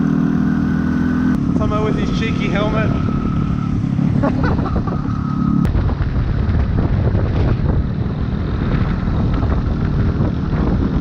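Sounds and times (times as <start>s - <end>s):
motorbike engine running: 0.0s - 11.0s
wind buffeting microphone: 1.3s - 11.0s.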